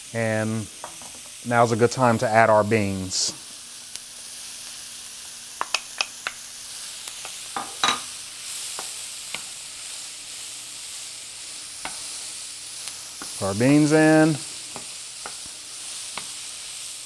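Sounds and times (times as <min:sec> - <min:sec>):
vegetables sizzling in a skillet: 0:00.0 - 0:17.0.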